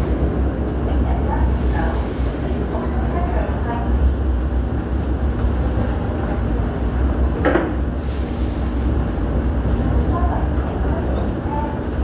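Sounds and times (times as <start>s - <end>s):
light rail cars rumbling: 0.0s - 12.0s.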